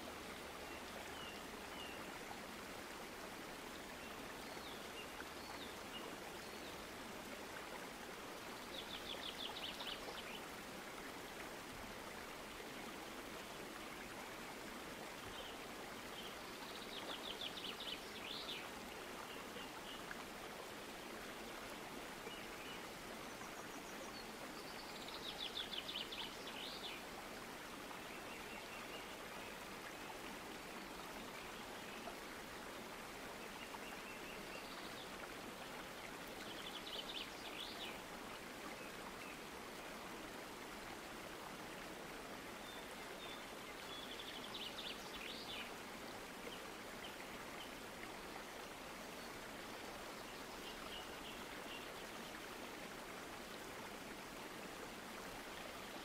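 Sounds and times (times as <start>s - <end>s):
stream rushing hiss: 0.0s - 56.0s.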